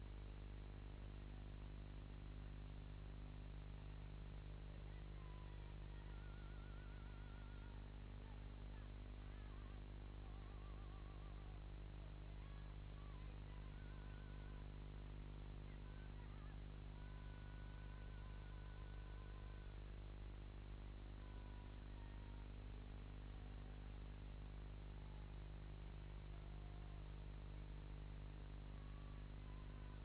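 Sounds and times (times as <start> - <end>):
low hum and hiss: 0.0 - 30.0.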